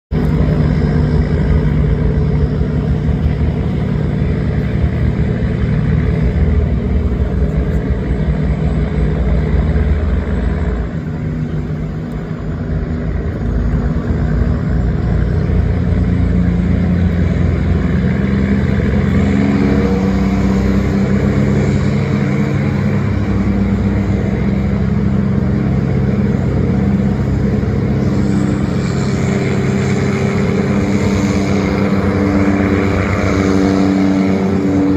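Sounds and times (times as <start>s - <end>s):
tugboat engine running: 0.1s - 34.9s.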